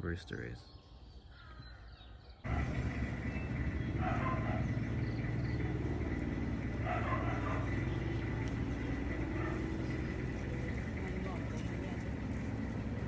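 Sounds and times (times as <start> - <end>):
vehicle engine rumbling: 2.4 - 13.0.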